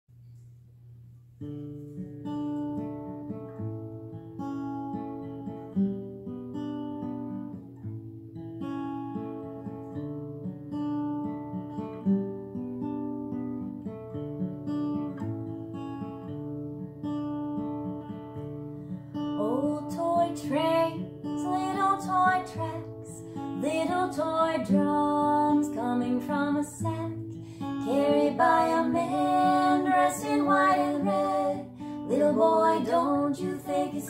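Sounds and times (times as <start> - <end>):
acoustic guitar playing: 0.2 - 34.0.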